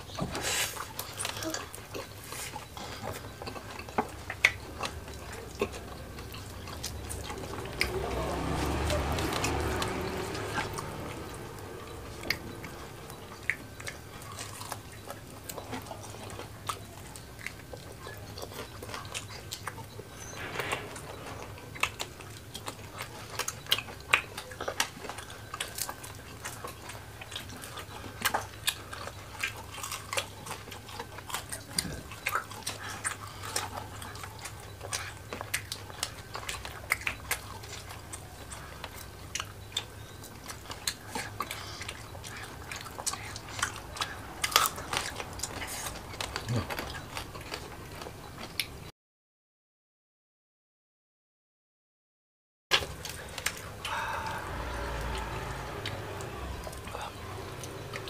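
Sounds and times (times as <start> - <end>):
faint low hum: 0.0 - 48.9, 52.8 - 58.0
wet chewing and lip smacks: 0.0 - 48.9.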